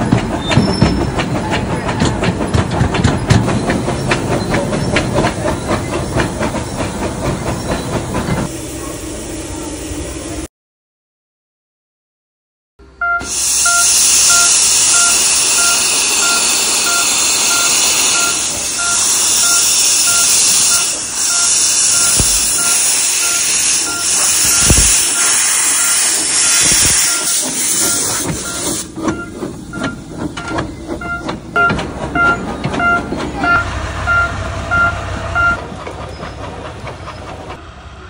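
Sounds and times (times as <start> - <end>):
steam locomotive blowing off steam: 0.0 - 10.5, 13.2 - 38.0.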